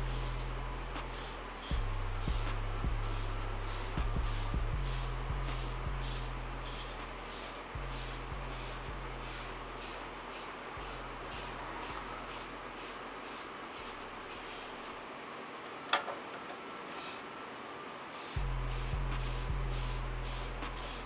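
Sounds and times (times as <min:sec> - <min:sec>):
brush swishing through hair: 0:00.0 - 0:15.0, 0:18.1 - 0:21.0.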